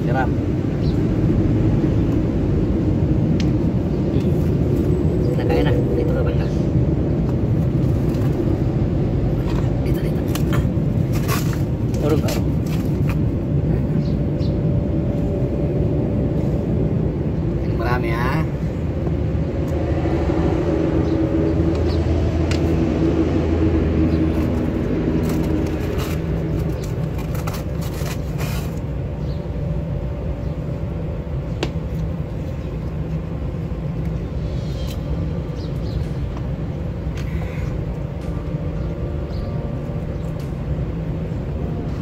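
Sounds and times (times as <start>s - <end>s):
motor vehicle engine rumble: 0.0s - 42.0s.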